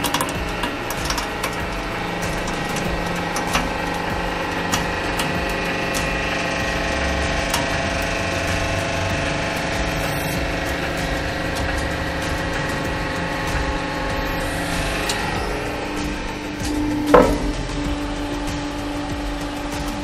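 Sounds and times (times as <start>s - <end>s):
hydraulic pump motor hum: 0.0s - 20.0s
sharp clicks: 0.0s - 20.0s.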